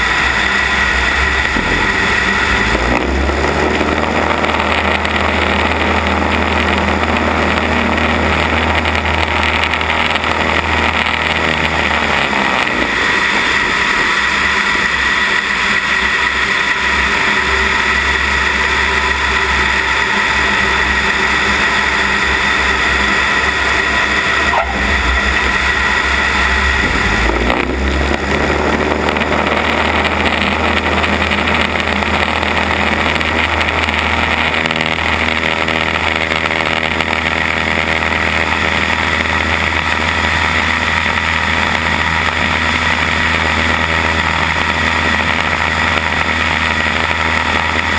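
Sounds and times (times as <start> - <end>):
airplane engine and propeller: 0.0 - 47.9.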